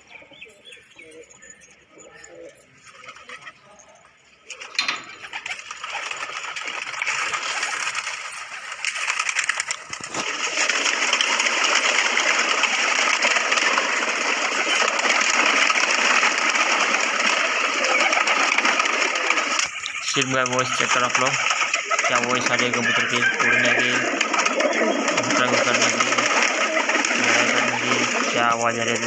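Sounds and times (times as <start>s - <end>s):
pigeon wings flapping: 2.8s - 3.6s, 4.4s - 29.0s.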